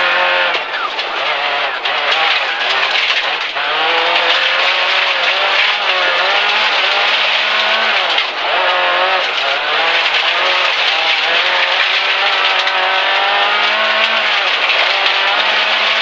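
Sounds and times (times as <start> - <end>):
car engine revving: 0.0 - 16.0
tyres hissing on gravel: 0.0 - 16.0.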